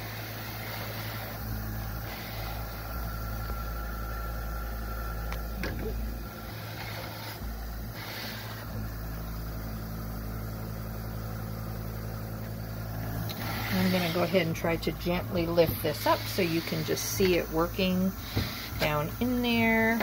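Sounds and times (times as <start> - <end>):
hiss of air and mist: 0.0 - 20.0
humidifier motor hum: 0.0 - 20.0.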